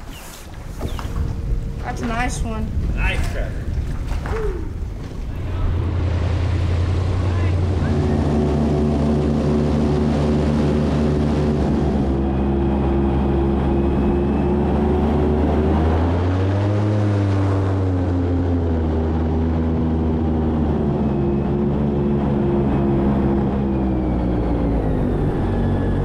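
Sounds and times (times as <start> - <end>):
airboat engine and propeller drone: 0.0 - 26.0.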